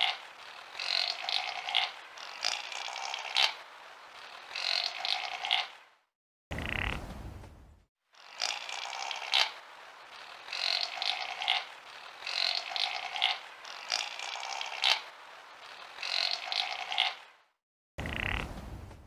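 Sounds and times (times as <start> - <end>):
chamois raspy calls: 0.0 - 5.8, 8.2 - 17.3, 18.0 - 18.5.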